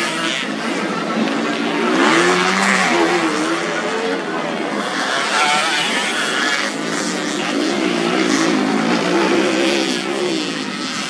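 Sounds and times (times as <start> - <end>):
motorcycle engines revving hard: 0.0 - 11.0.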